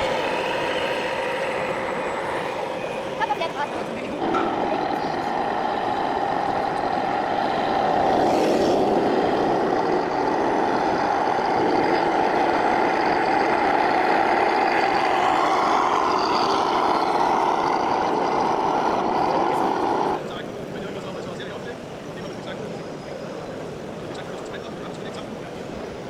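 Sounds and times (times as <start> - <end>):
faint high whines: 0.0 - 26.0
model vehicle mechanical hum: 0.0 - 26.0.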